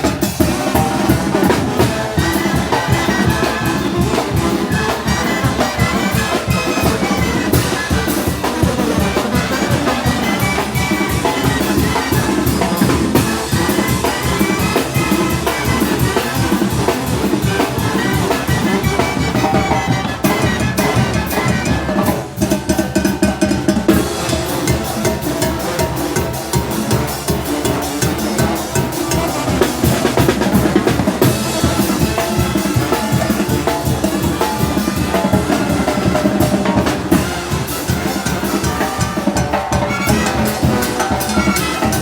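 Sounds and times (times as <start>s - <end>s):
drums and cymbals beat: 0.0s - 42.0s
trumpets and brass playing: 0.0s - 42.0s.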